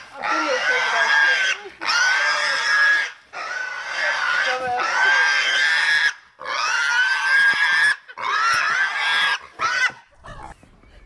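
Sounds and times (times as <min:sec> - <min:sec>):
pig squealing: 0:00.1 - 0:10.6.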